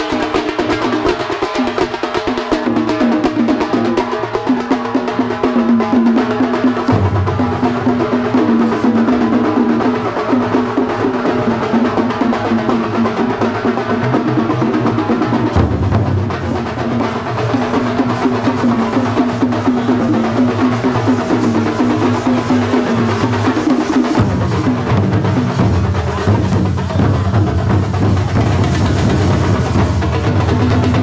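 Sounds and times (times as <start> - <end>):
frame drums beaten with sticks: 0.0 - 31.0.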